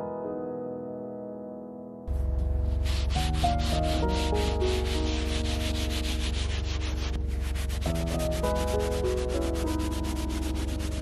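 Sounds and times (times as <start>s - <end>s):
scratchy scrubbing of frost: 2.1s - 11.0s.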